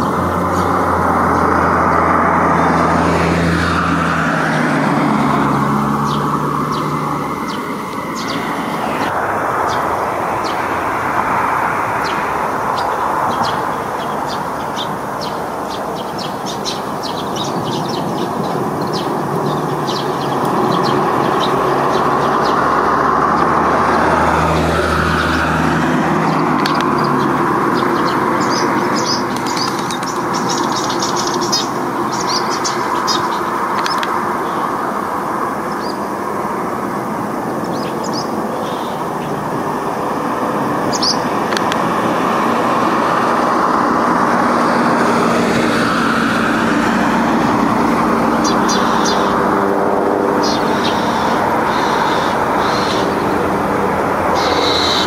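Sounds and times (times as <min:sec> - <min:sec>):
heavy vehicle engine hum: 0:00.0 - 0:55.0
sparrows chirping: 0:00.0 - 0:55.0
vehicle traffic noise: 0:00.0 - 0:55.0.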